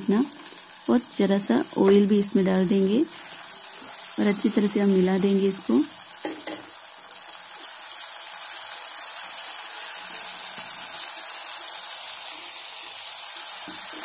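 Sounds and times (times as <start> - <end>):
masala sizzling in a pan: 0.0 - 14.0.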